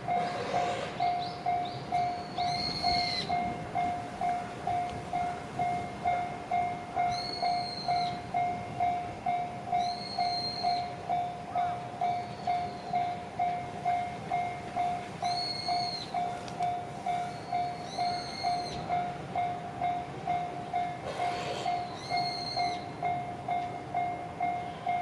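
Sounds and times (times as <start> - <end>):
level crossing warning bell: 0.0 - 25.0.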